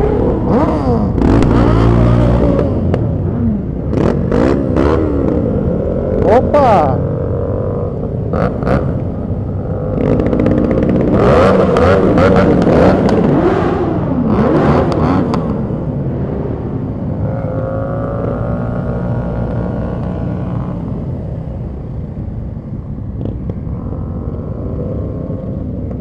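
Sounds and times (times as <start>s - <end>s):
low rumble of moving bike: 0.0s - 26.0s
motorcycle engines revving: 0.0s - 26.0s.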